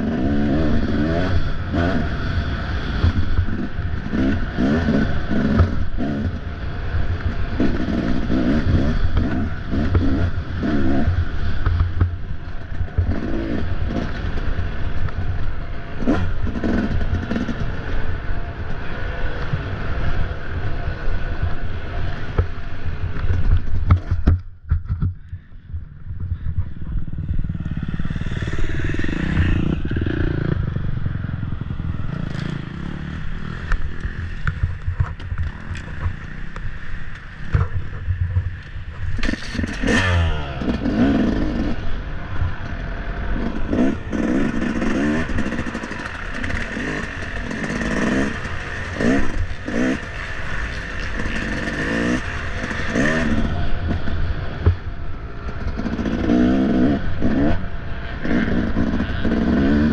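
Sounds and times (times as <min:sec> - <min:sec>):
dirt bike engine revving: 0:00.0 - 0:15.0, 0:15.7 - 0:18.2, 0:27.2 - 0:59.9.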